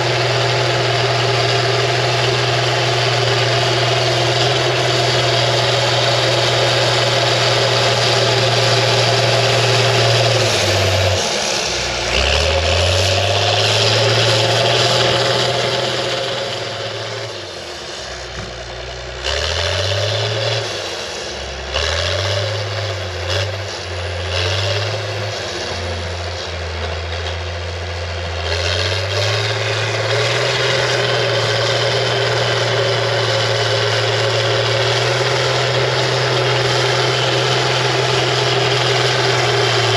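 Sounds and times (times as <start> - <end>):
dozer diesel engine running hard: 0.0 - 39.9.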